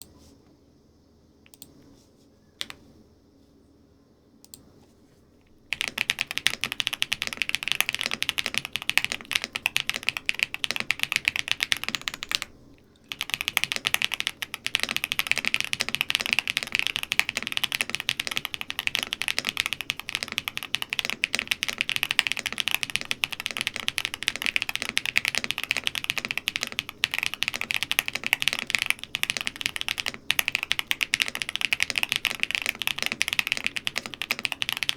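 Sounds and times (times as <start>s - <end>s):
mechanical keyboard typing: 5.7s - 12.5s, 13.1s - 34.9s.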